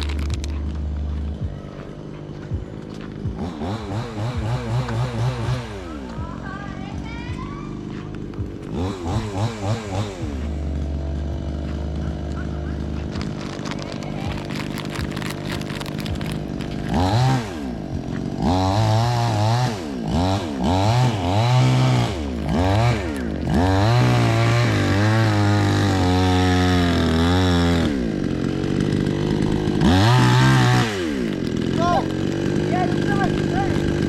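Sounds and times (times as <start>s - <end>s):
small petrol engine revving: 0.0s - 34.0s.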